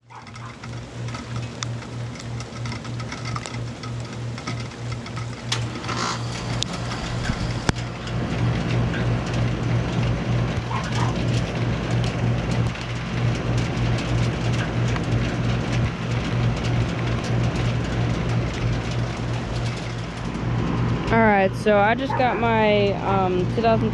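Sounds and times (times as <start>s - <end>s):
air conditioner unit humming and running: 0.0s - 23.9s
light rain pattering: 0.1s - 5.6s, 6.5s - 23.0s.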